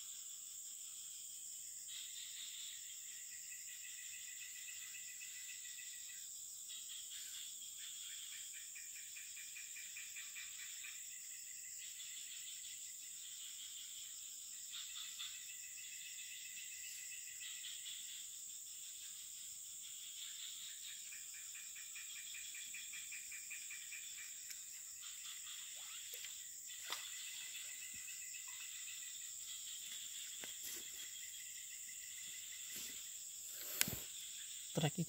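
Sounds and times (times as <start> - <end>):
high insect drone: 0.0 - 35.0.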